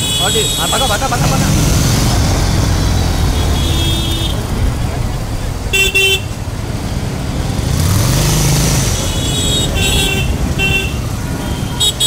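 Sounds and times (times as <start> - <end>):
motorcycle and car engines: 0.0 - 12.0.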